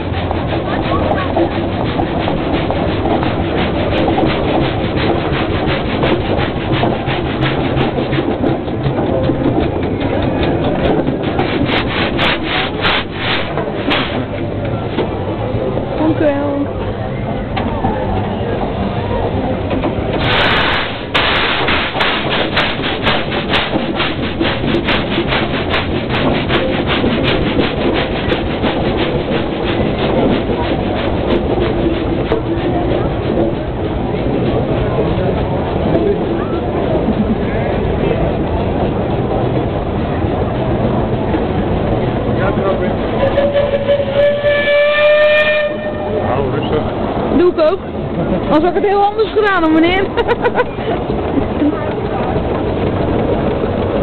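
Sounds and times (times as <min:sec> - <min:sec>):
steam engine running: 0:00.0 - 0:17.3, 0:18.0 - 0:54.0.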